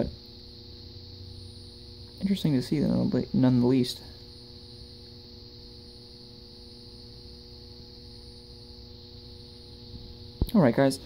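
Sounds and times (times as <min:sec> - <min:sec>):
faint steady hiss: 0:00.0 - 0:11.0
streetlight ballast electrical hum: 0:00.0 - 0:11.0.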